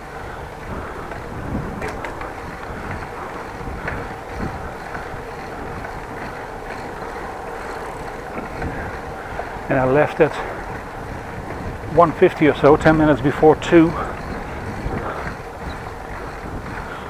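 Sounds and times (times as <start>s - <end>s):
bicycle rolling noise: 0.0s - 17.0s
wind on microphone: 0.0s - 17.0s.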